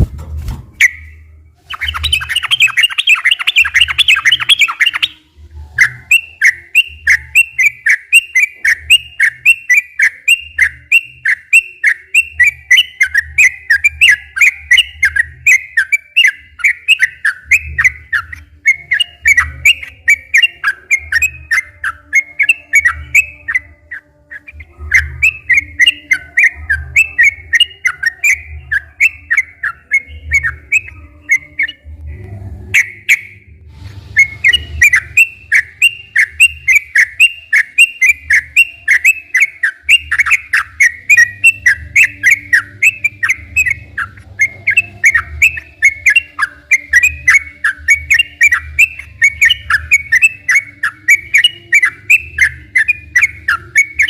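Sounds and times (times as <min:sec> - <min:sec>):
bulbul singing: 0:00.8 - 0:32.1, 0:32.7 - 0:33.6, 0:34.2 - 0:54.0.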